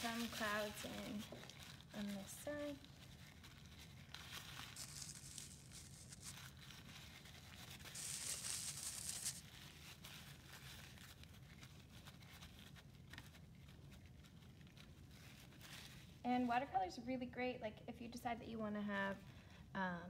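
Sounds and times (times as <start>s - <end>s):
paper towel crinkling: 0.0s - 16.5s.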